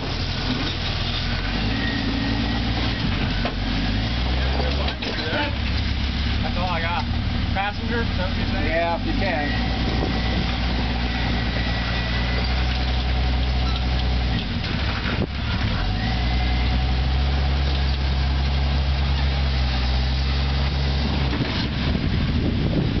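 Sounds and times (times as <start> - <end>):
engine running at low revs: 0.0 - 23.0.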